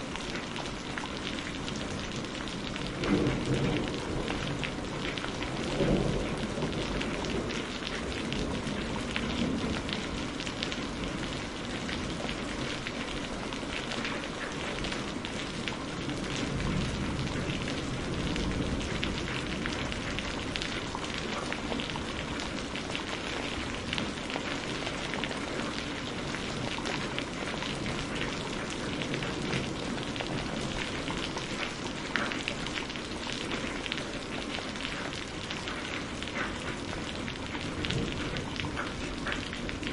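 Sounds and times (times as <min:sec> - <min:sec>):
steady rain falling: 0:00.0 - 0:39.9
low rumble of thunder: 0:01.4 - 0:13.7, 0:14.5 - 0:34.7, 0:35.3 - 0:39.9.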